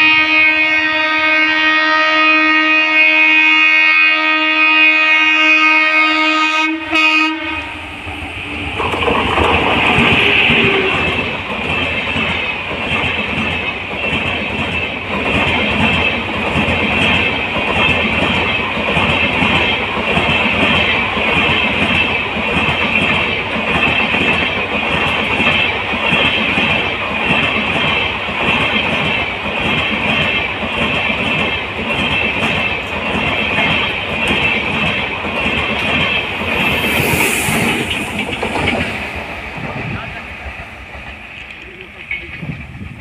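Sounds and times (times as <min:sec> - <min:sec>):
train wheels clattering on rails: 0:08.2 - 0:43.0.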